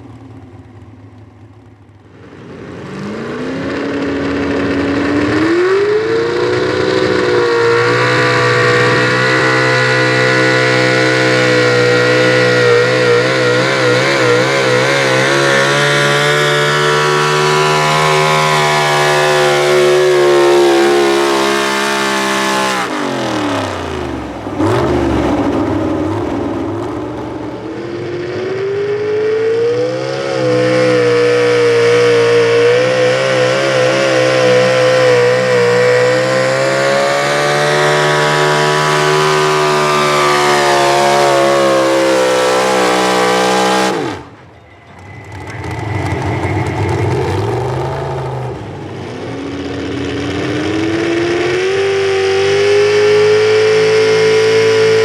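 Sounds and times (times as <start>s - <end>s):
truck engine at high revs: 0.0s - 55.0s.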